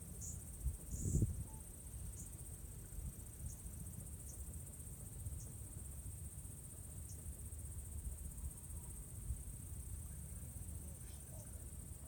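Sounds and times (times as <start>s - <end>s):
chorus of night insects: 0.0s - 12.0s.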